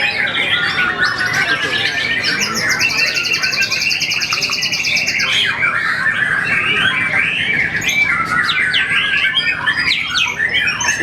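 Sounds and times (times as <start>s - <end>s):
songbirds chorus: 0.0s - 11.0s.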